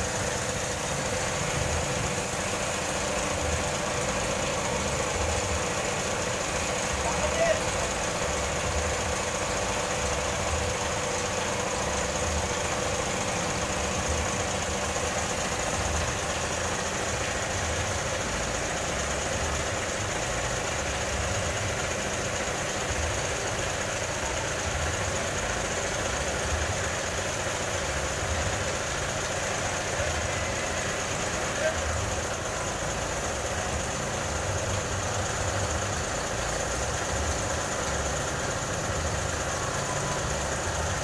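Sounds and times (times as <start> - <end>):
constant hiss: 0.0 - 41.0
motor rumble: 0.0 - 41.0.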